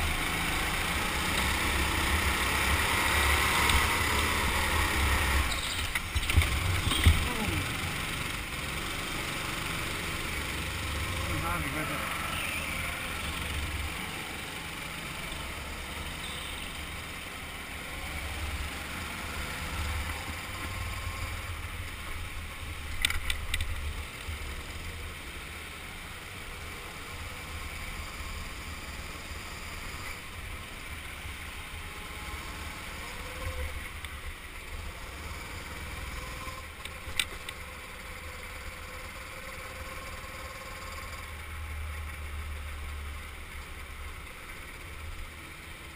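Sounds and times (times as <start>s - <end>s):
go-kart engine rumbling: 0.0s - 45.9s.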